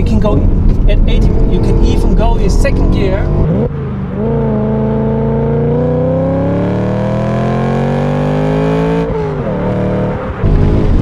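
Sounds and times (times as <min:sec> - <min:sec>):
car engine revving through gears: 0:00.5 - 0:11.0.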